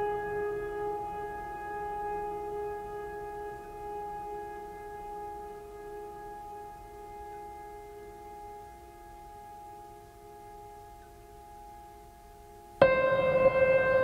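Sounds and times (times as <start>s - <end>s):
long held music tone: 0.0s - 14.0s.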